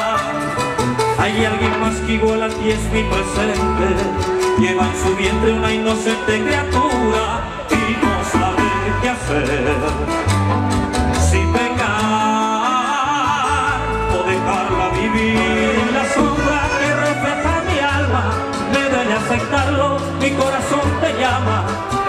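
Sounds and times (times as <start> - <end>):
live band music over sound system: 0.0 - 22.0.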